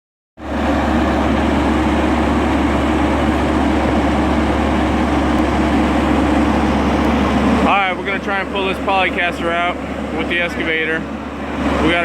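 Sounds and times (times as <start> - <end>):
heavy engine idling: 0.4 - 12.0.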